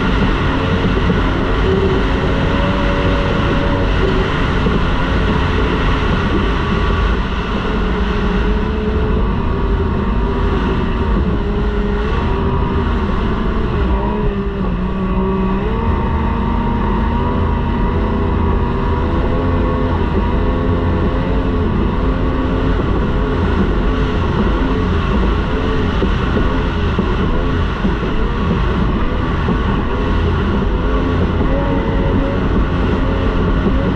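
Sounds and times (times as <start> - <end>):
outboard engine at high revs: 0.0 - 33.9.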